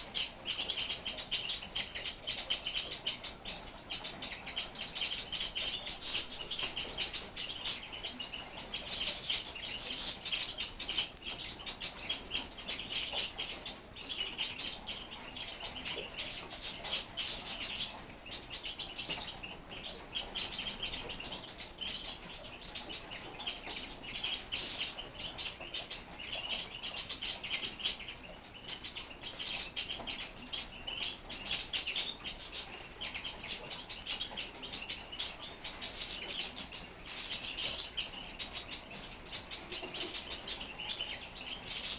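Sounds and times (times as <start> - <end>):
larks twittering song: 0.0 - 41.9.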